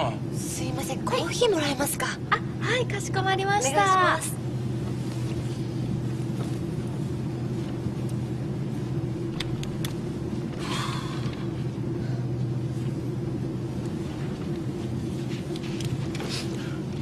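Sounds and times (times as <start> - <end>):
airliner cabin jet drone: 0.0 - 17.0.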